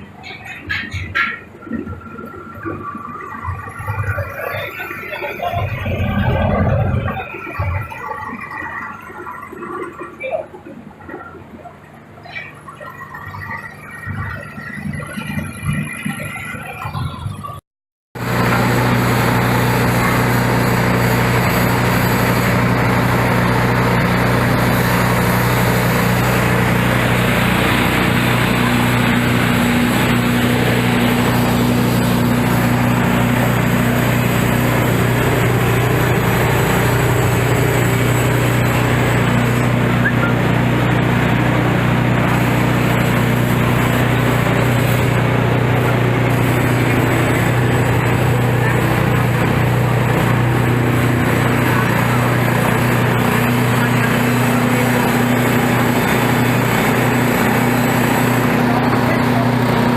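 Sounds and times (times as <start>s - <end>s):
threshing machine running: 0.0s - 10.4s, 11.0s - 17.6s, 18.2s - 59.9s.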